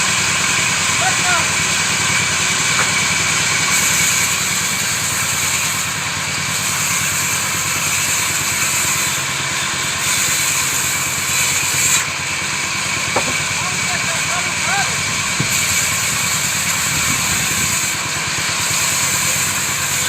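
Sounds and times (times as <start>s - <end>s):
woodworking machine droning: 0.0s - 20.0s.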